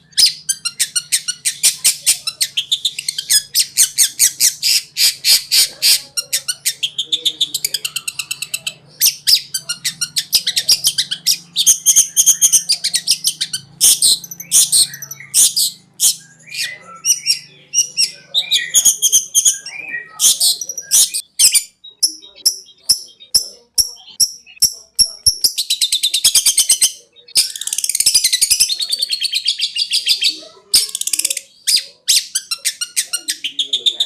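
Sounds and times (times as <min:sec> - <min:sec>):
bird singing chattering trills: 0:00.0 - 0:34.0.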